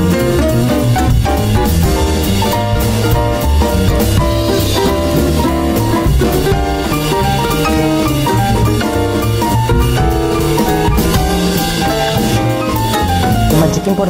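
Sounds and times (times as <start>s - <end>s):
instrumental background music: 0.0s - 14.0s
steady drum beat: 0.0s - 14.0s.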